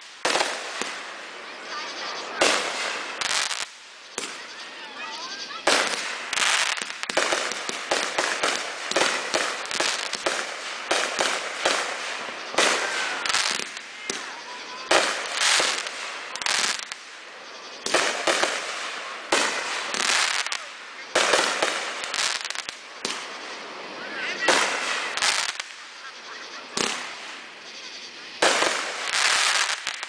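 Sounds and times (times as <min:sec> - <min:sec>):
fireworks bursting with bangs: 0:00.0 - 0:30.0
fireworks crackle: 0:00.0 - 0:30.0.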